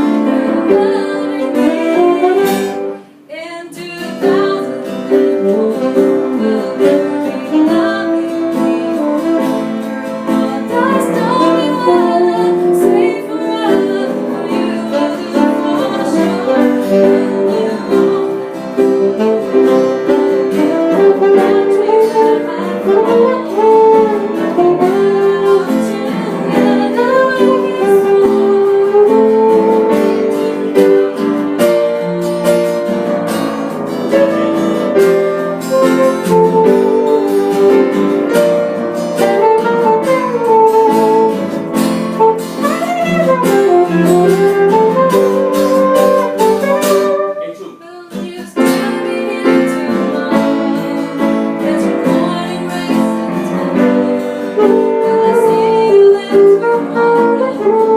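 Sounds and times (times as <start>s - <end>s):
person singing: 0.0s - 31.9s, 34.1s - 57.9s
plucked guitar: 0.0s - 57.9s
small jazz band playing: 0.0s - 57.9s.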